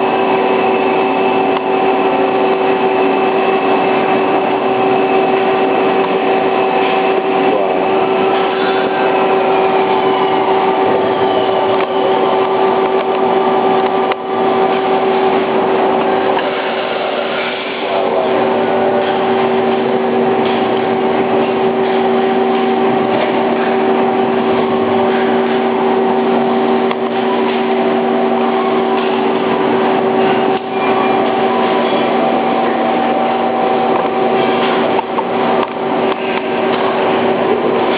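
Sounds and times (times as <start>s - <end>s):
lathe machine whine: 0.0s - 37.9s.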